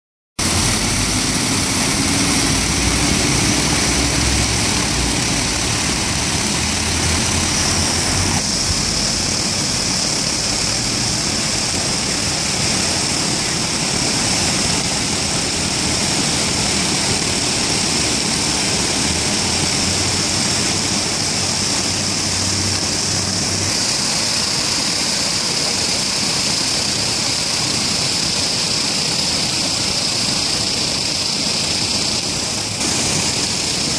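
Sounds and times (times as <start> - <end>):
fountain water splashing: 0.4 - 33.9
low rumble of traffic: 0.4 - 33.9.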